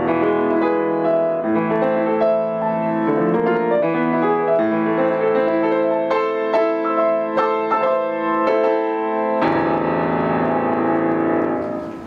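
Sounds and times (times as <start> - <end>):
solo grand piano: 0.0 - 12.0.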